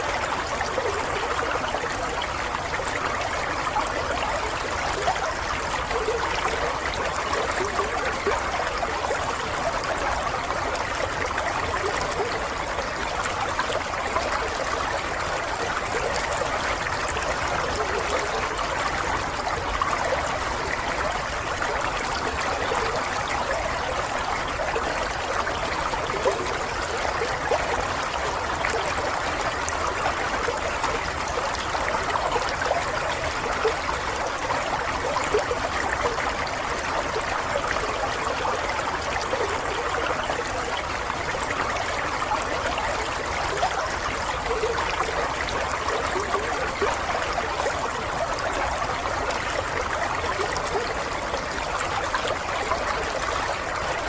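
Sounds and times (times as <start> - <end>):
water trickling and bubbling: 0.0 - 54.0.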